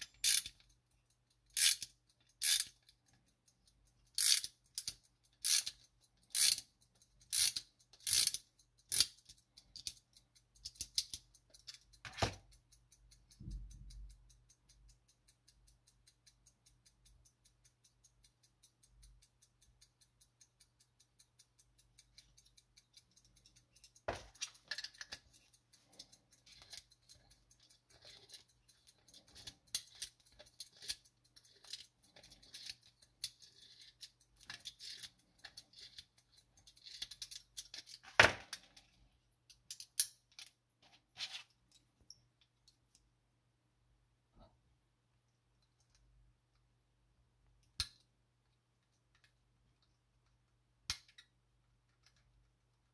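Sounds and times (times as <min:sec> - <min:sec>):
clock movement ticking: 0:00.0 - 0:43.0.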